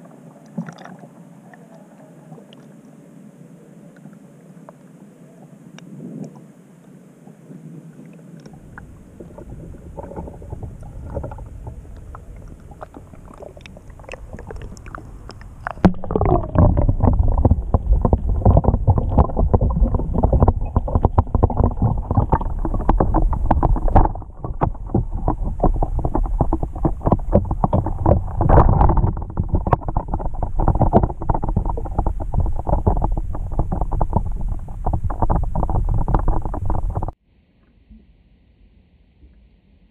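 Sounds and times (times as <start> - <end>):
water sloshing and gurgling: 0.0 - 2.9, 7.9 - 37.2
underwater crackling and rumble: 0.0 - 37.2.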